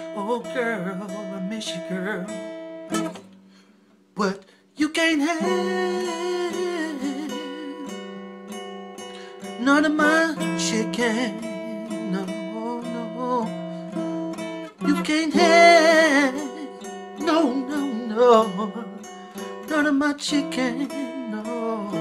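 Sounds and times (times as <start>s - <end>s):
man singing: 0.0s - 3.1s, 4.2s - 8.2s, 9.3s - 22.0s
acoustic guitar: 0.0s - 22.0s.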